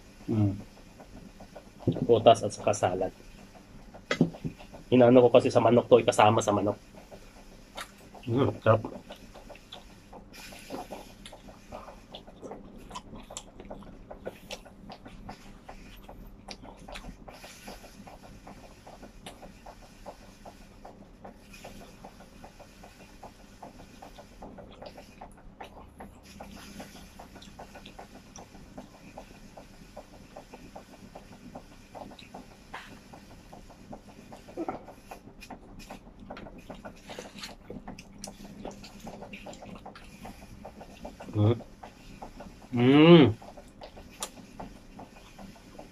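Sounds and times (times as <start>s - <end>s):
person chewing food: 0.1s - 45.9s.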